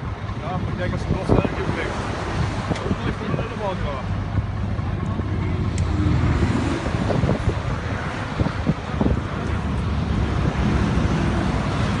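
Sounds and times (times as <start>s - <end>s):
diesel engine running: 0.0s - 12.0s
wind buffeting microphone: 0.0s - 12.0s.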